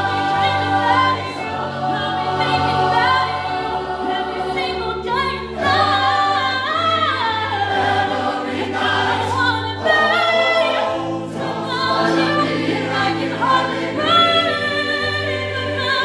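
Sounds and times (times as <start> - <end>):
choir singing chords: 0.0 - 16.0.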